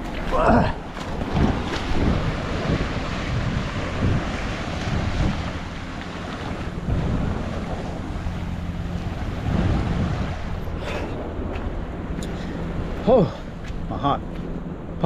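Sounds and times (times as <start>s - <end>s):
ocean surf over reef: 0.0s - 15.0s
wind buffeting microphone: 0.0s - 15.0s.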